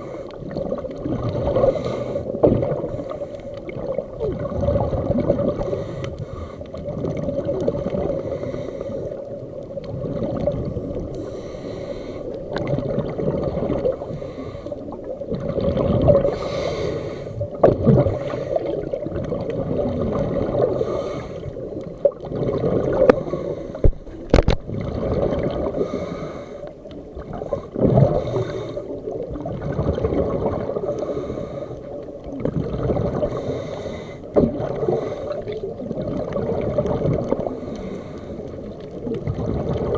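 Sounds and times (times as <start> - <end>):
bubbles gurgling: 0.0 - 11.3, 12.4 - 39.9.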